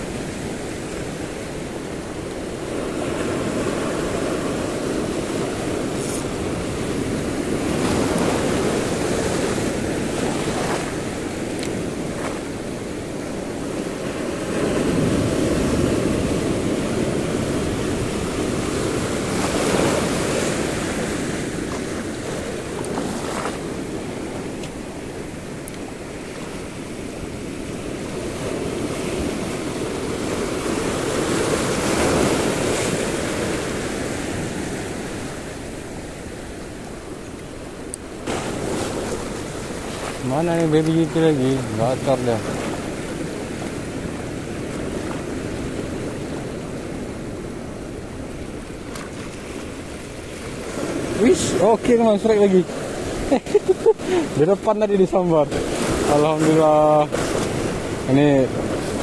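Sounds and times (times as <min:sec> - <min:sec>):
surf washing onto shore: 0:00.0 - 0:59.0.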